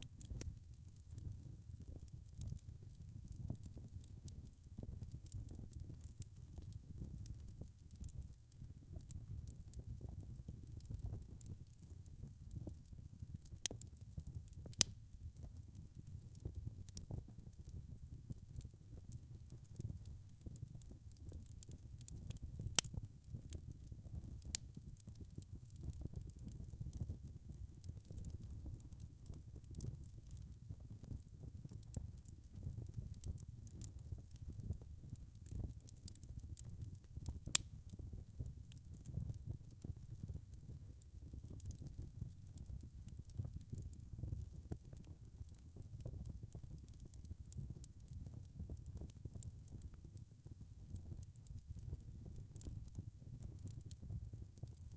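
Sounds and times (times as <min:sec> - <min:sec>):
low rumble of fire: 0:00.0 - 0:54.9
wood fire crackling: 0:00.0 - 0:54.9.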